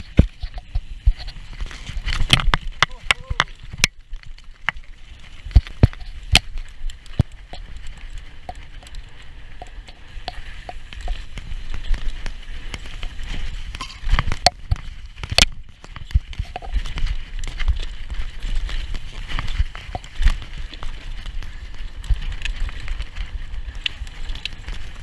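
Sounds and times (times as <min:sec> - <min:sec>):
bike clicks and rattles: 0:00.0 - 0:25.0
tyres rolling on dirt: 0:00.0 - 0:25.0.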